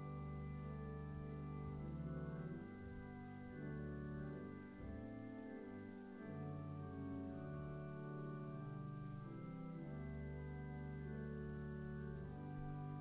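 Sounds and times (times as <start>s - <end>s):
organ playing slow chords: 0.0s - 13.0s.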